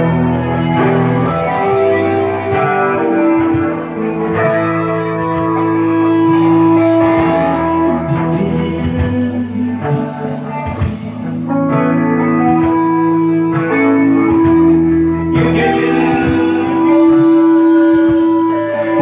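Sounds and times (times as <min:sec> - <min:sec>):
guitar ringing notes: 0:00.0 - 0:19.0.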